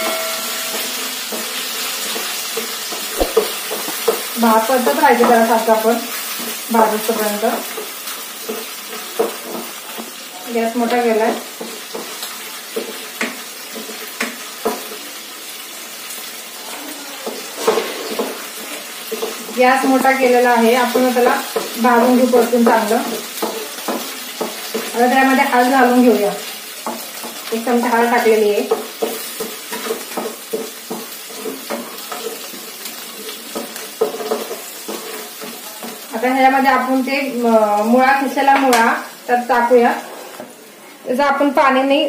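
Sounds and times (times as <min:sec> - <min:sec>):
spatula scraping a pan: 0:00.0 - 0:10.3, 0:10.9 - 0:15.2, 0:16.9 - 0:37.0, 0:39.4 - 0:40.6
paste sizzling in hot oil: 0:00.0 - 0:41.1.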